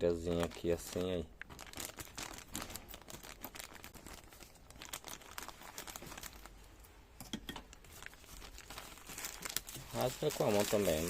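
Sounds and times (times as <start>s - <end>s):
plastic bag crinkling: 0.1s - 6.8s, 7.7s - 11.0s.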